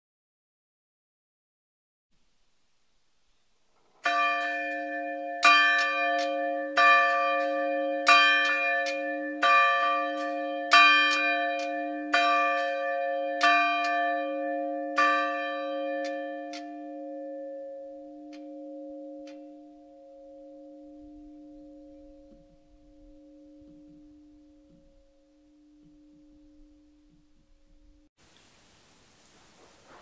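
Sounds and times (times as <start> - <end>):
church bell tolling: 4.0 - 28.1.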